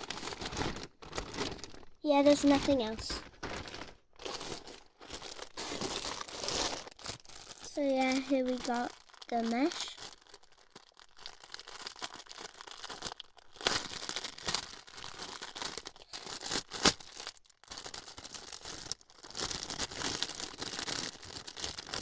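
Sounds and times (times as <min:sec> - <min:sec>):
packaging crinkling and tearing: 0:00.0 - 0:22.0.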